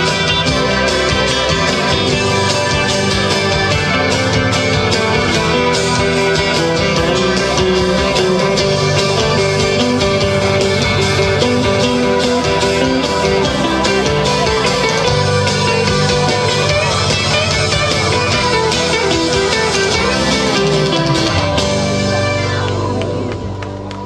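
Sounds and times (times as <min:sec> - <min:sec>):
acoustic guitar: 0:00.0 - 0:24.0
electric guitar: 0:00.0 - 0:24.0
keyboards: 0:00.0 - 0:24.0.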